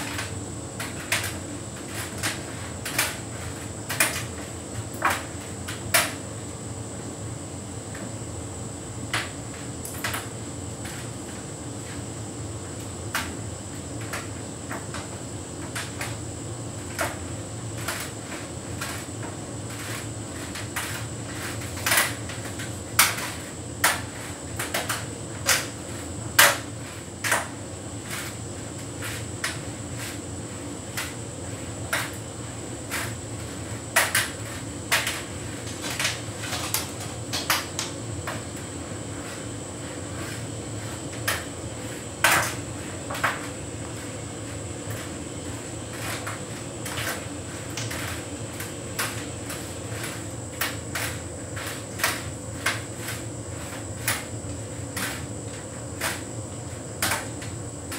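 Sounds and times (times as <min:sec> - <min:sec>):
tumble dryer humming: 0:00.0 - 0:57.9.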